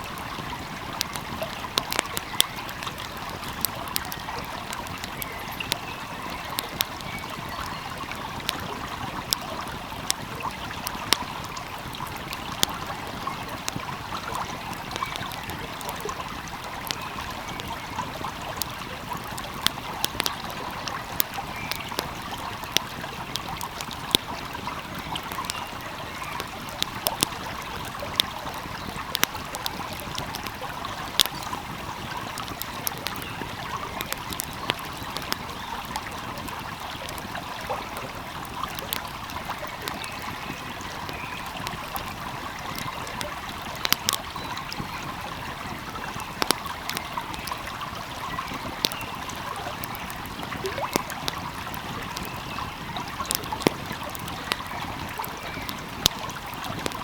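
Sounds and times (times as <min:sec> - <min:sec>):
stream flowing: 0:00.0 - 0:57.0
wood fire crackling and popping: 0:00.0 - 0:57.0.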